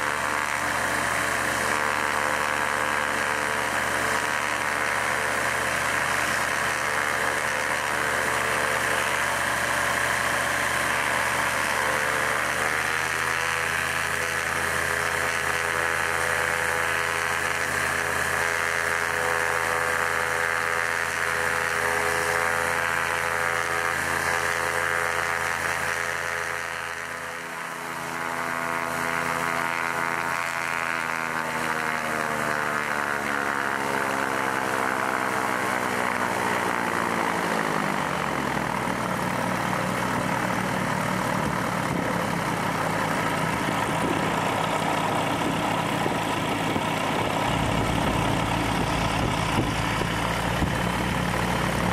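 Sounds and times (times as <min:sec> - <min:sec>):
aircraft engine running: 0:00.0 - 0:51.9.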